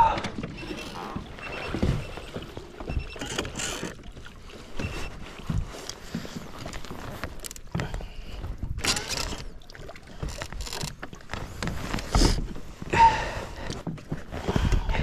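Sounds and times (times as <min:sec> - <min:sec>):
trolling motor clanking and scraping: 0:00.2 - 0:12.5.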